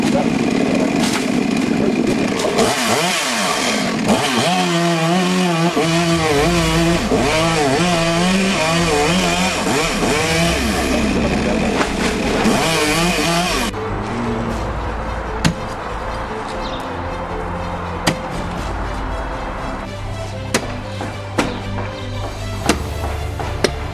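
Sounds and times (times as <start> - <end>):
chainsaw engine revving: 0.0 - 23.9.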